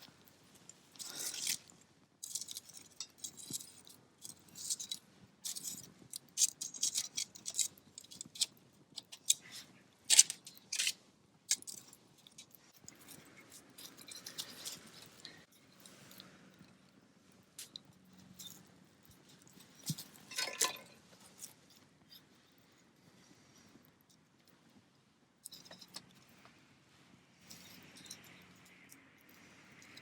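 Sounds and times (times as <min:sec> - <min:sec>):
scrapes clinks and rustles of cooking: 0:00.0 - 0:24.7, 0:25.4 - 0:30.0.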